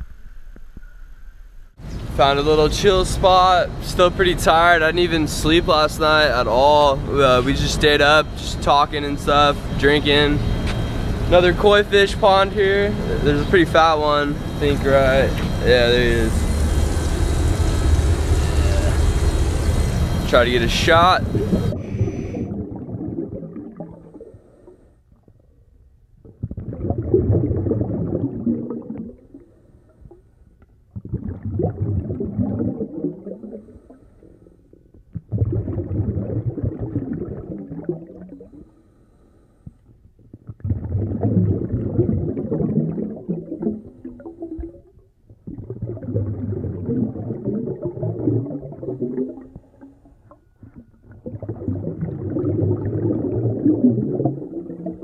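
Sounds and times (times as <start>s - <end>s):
muffled underwater rumbling and gurgling: 0.0s - 55.0s.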